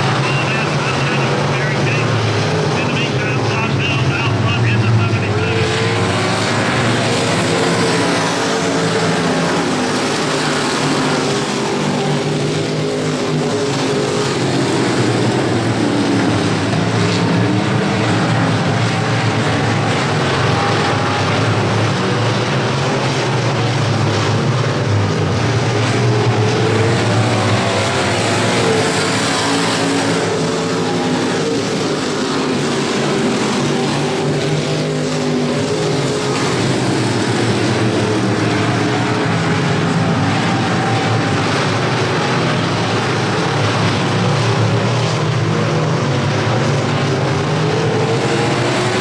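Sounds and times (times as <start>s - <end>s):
stock car engines racing: 0.0s - 49.0s.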